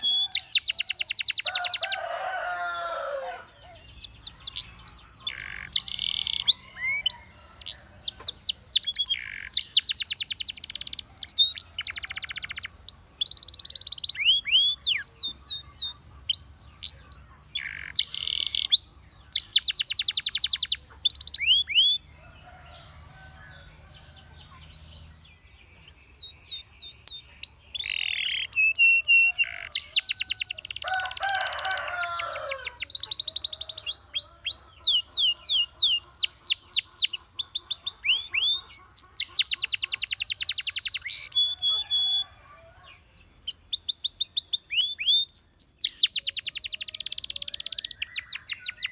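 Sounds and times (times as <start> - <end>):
canary singing trills and whistles: 0.0 - 22.9, 25.6 - 48.9.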